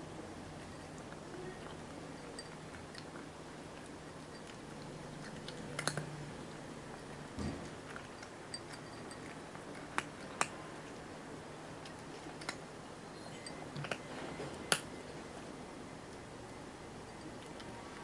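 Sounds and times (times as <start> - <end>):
kitten crunching food: 0.5 - 13.0, 13.6 - 18.0.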